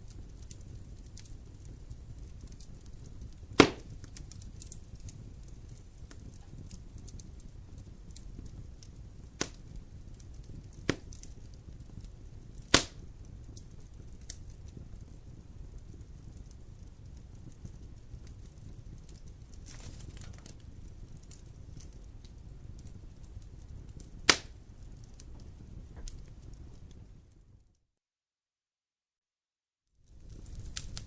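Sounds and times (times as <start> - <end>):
fire popping sharply: 0.0 - 27.6, 30.1 - 31.0
fireplace fire crackling: 0.0 - 27.8, 30.0 - 31.0.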